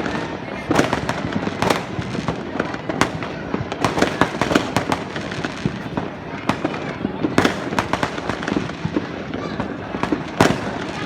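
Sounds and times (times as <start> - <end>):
fireworks cracks and bangs: 0.0 - 11.0.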